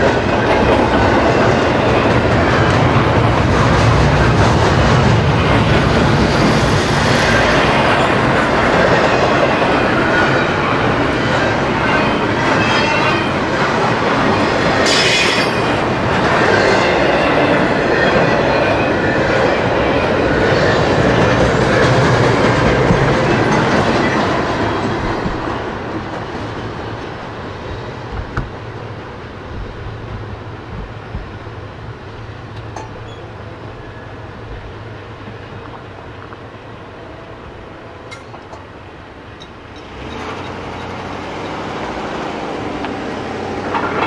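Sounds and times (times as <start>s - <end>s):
freight train wheels clattering: 0.0s - 36.5s, 38.0s - 44.0s.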